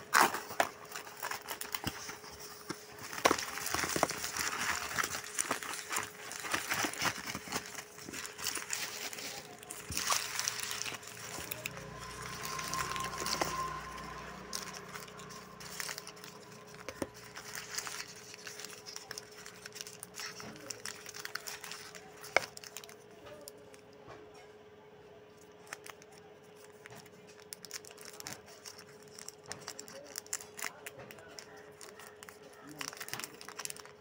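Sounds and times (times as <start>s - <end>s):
plastic wrappers crinkling: 0.0s - 23.8s, 25.5s - 34.0s
faint steady hum: 0.0s - 34.0s.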